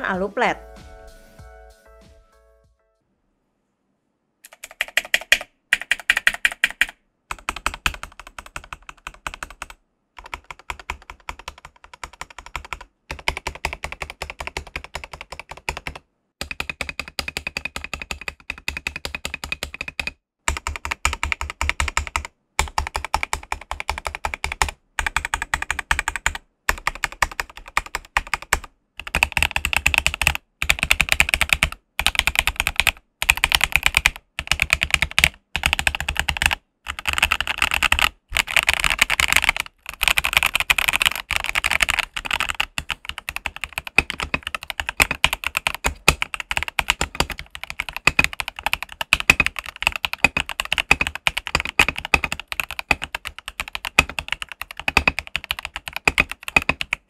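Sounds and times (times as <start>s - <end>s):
fast mechanical keyboard typing: 4.5s - 57.0s.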